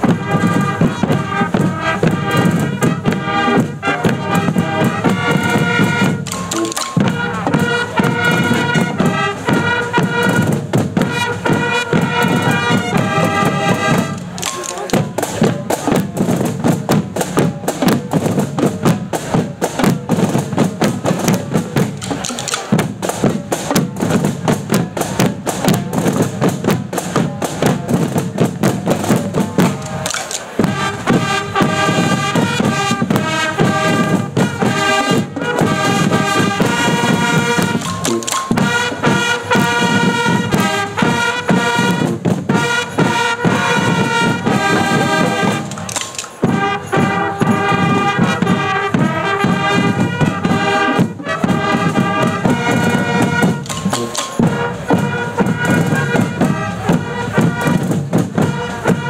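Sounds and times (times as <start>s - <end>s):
drums playing: 0.0s - 59.0s
horns playing a melody: 0.0s - 59.0s.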